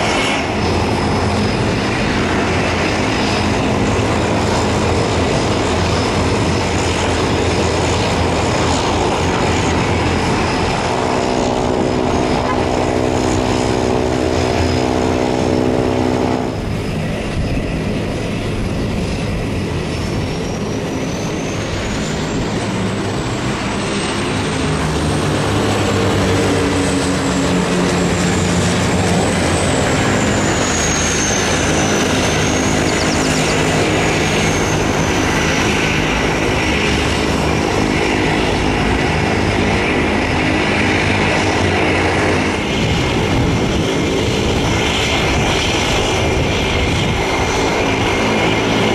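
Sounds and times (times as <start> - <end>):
jet landing: 0.0 - 48.9
propeller buzzing: 0.0 - 48.9
turboprop turbine whistle: 0.0 - 48.9.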